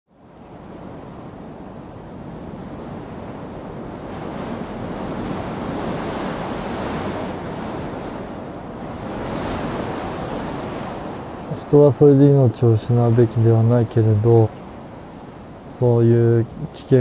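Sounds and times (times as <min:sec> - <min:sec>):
rushing wind: 0:00.1 - 0:17.0.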